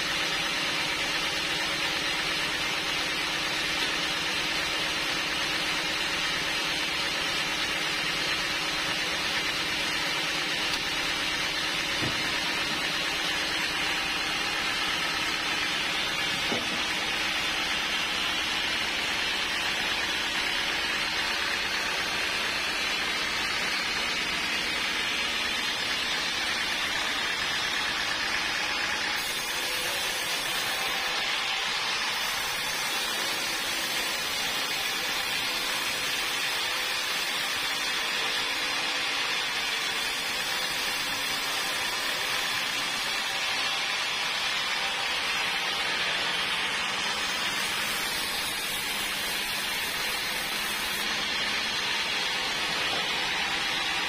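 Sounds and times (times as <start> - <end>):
band saw blade sawing log: 0.0 - 54.0.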